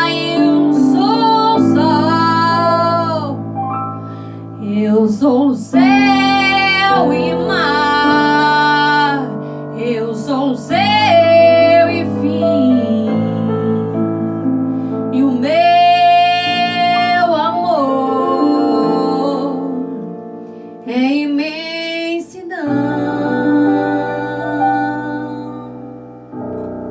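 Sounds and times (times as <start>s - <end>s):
piano accompaniment: 0.0s - 26.9s.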